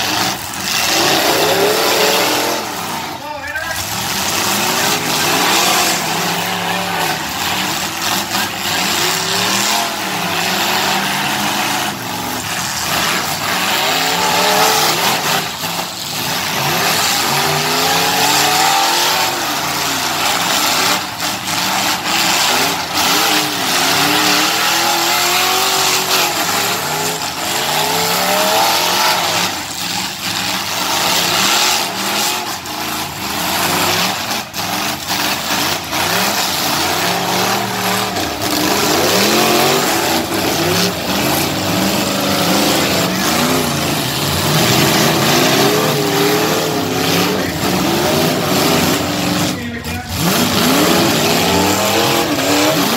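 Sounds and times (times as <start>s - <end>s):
car and truck engines revving: 0.0s - 52.9s
vehicles crashing bangs: 0.0s - 52.9s.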